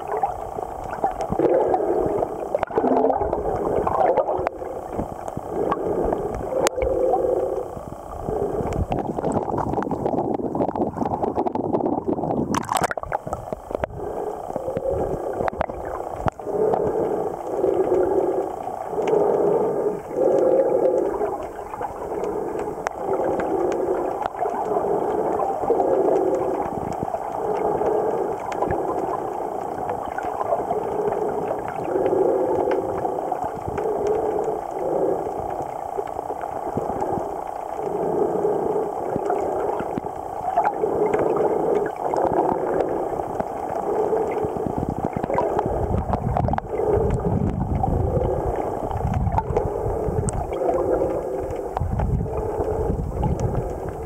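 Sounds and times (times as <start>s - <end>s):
deep underwater rumble: 0.0s - 54.0s
muffled underwater water swishing: 0.0s - 54.0s.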